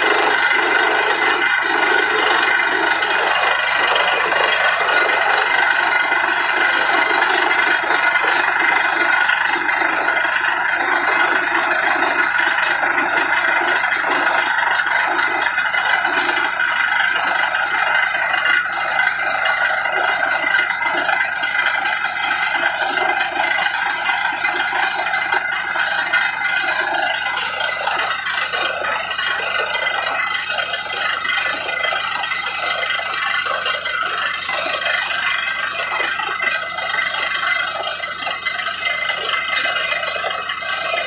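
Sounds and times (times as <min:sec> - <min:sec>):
drilling rig machinery: 0:00.0 - 0:41.0.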